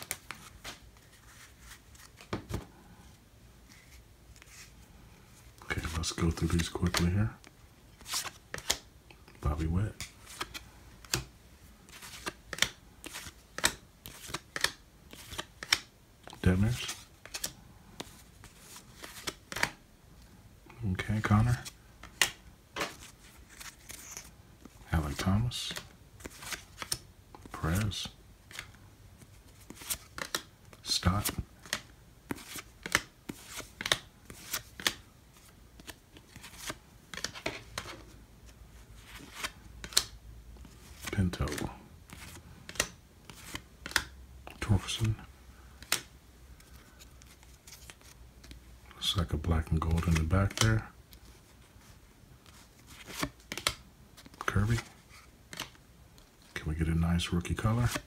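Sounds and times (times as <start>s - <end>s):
cards sliding and rustling: 0.0s - 20.3s, 21.0s - 56.6s, 57.2s - 58.0s.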